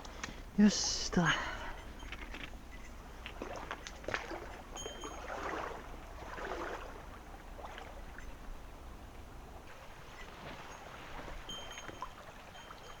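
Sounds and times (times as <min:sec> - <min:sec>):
stream running and splashing: 0:00.0 - 0:13.0.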